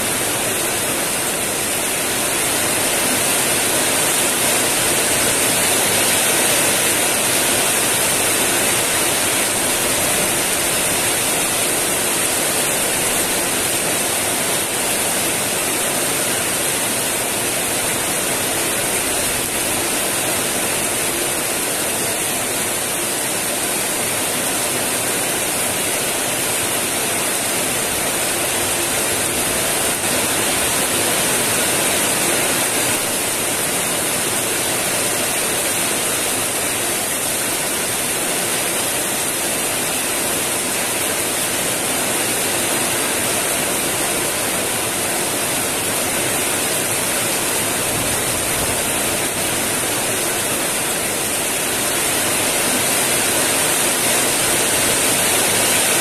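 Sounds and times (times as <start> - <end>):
heavy rain on wet ground: 0.0 - 56.0.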